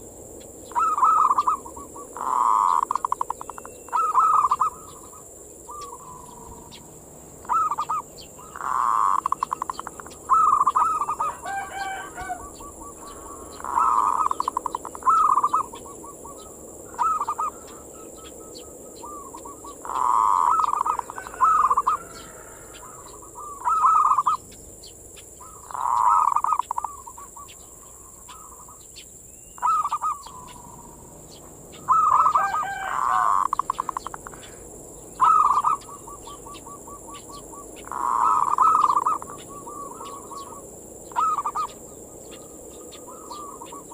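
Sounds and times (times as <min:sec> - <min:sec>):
dove cooing: 0:00.0 - 0:29.0, 0:29.6 - 0:43.9.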